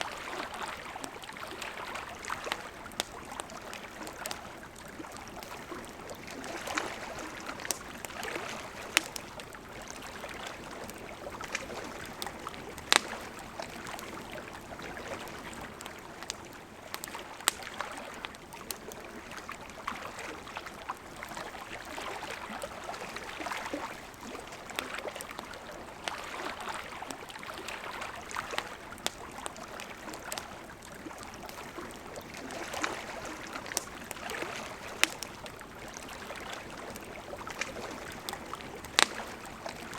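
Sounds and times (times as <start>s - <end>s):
campfire crackling: 0.0s - 39.9s
river flowing: 0.0s - 39.9s.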